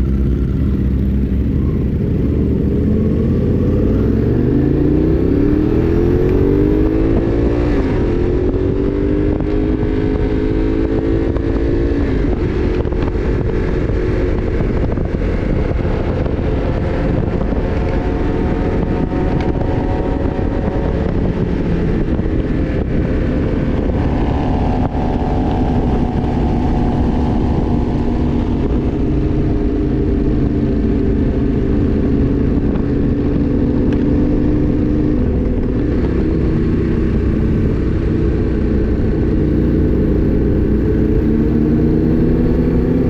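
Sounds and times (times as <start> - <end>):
motorcycle engine accelerating: 0.0 - 43.0
wind noise on microphone: 0.0 - 43.0.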